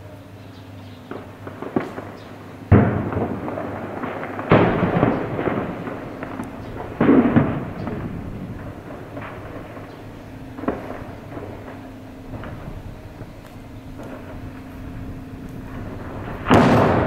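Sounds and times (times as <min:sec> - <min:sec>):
heavy blasts with rolling echo: 0:01.0 - 0:17.0
sharp gunshots: 0:01.1 - 0:13.4, 0:14.0 - 0:17.0.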